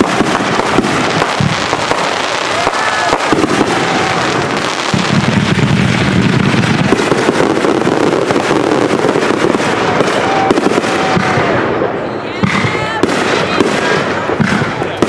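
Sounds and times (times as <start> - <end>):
fireworks barrage of bangs and crackling: 0.0 - 15.0.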